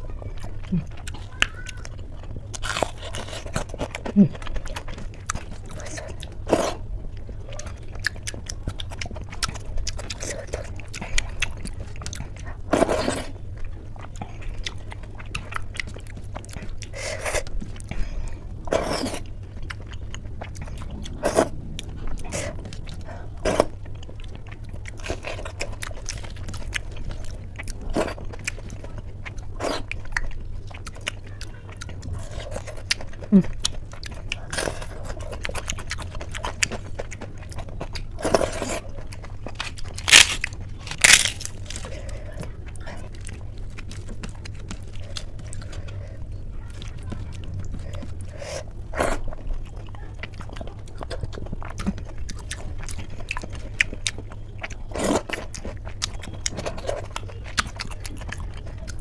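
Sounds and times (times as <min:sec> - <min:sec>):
steady low hum: 0:00.0 - 0:59.0
wet chewing and lip smacks: 0:00.5 - 0:59.0.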